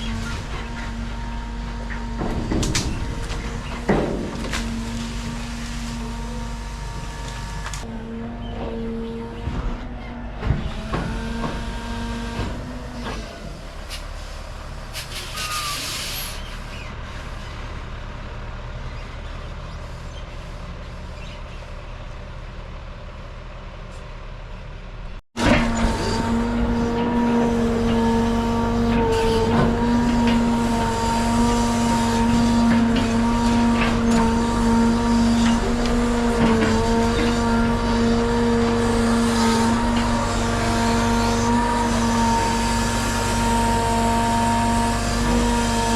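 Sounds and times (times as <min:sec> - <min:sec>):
large engine humming: 0:00.0 - 0:45.9.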